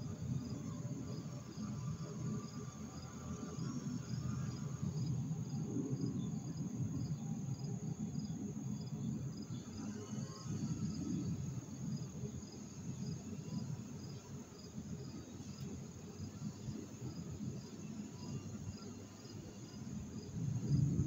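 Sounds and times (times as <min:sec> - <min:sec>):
crickets chirping: 0:00.0 - 0:21.0
steady insect trill: 0:00.0 - 0:21.0.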